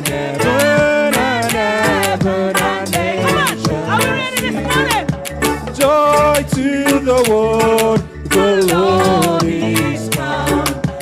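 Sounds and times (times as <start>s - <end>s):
bass: 0.0s - 11.0s
person singing: 0.0s - 11.0s.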